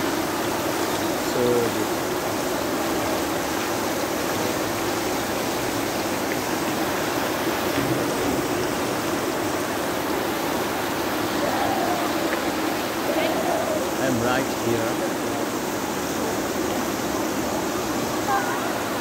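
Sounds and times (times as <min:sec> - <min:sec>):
distant voices: 0:00.0 - 0:19.0
falling water rushing: 0:00.0 - 0:19.0.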